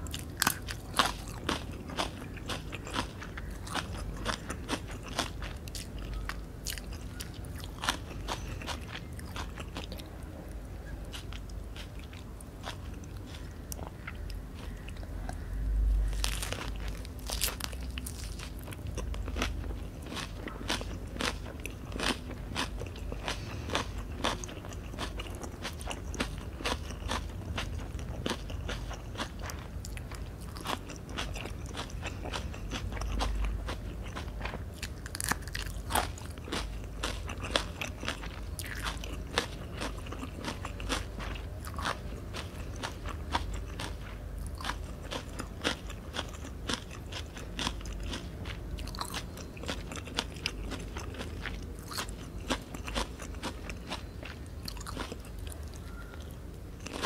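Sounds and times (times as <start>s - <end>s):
crisp chewing crunches: 0.0s - 57.0s.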